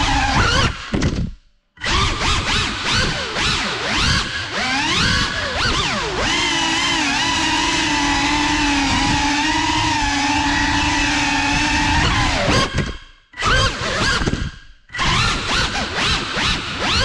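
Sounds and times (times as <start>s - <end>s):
drone propellers whining: 0.0s - 0.8s, 1.8s - 17.0s.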